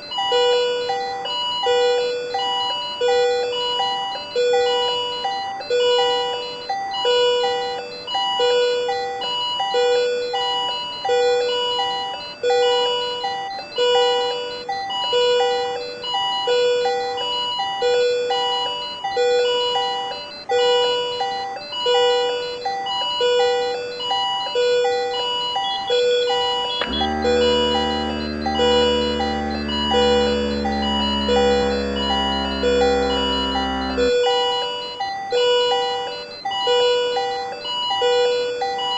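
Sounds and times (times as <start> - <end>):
patient monitor alarm beeps: 0.0 - 38.9.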